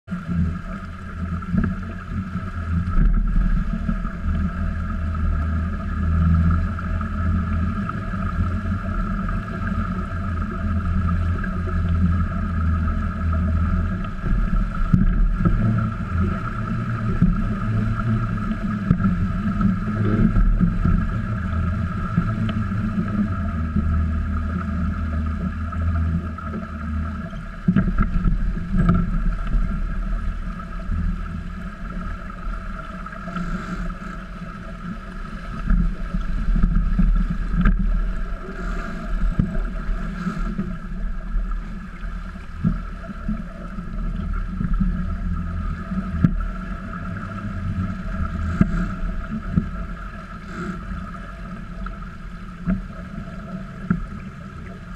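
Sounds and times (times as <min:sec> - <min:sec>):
faint hum: 0:00.1 - 0:54.9
water rushing along hulls: 0:00.1 - 0:54.9.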